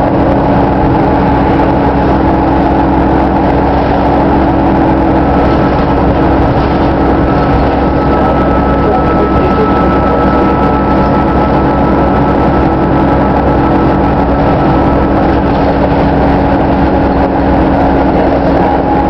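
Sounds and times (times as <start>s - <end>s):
bus engine and road noise: 0.0s - 19.0s
faint high whine: 0.0s - 19.0s.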